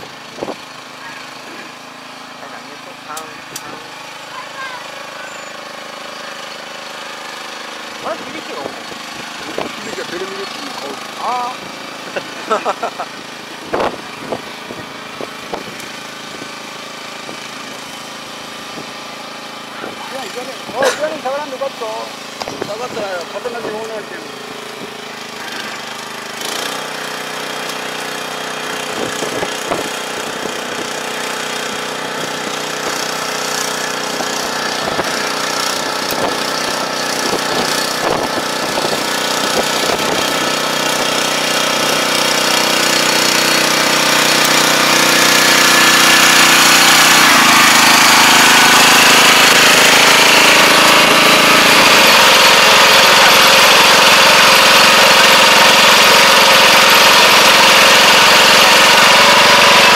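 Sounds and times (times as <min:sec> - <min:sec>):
transplanter engine clattering: 0:00.0 - 0:59.9.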